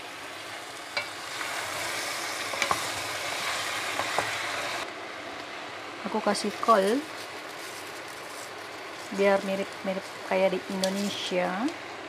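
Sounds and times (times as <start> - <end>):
food sizzling in hot oil: 0.0 - 4.9, 6.1 - 12.0.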